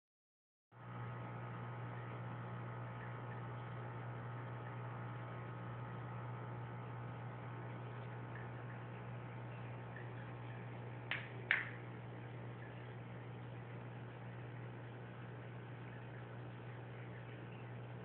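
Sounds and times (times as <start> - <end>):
aquarium pump humming: 0.8 - 18.0.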